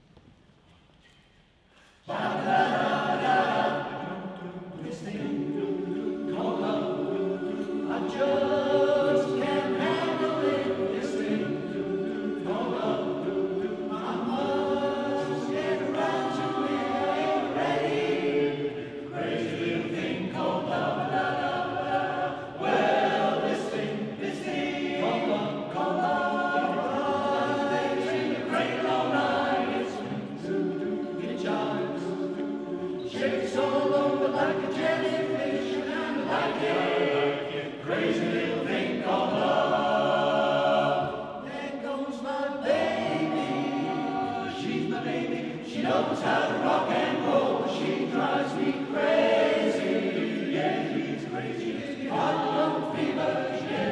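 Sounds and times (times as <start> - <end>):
men's chorus singing in harmony: 2.0 - 53.9.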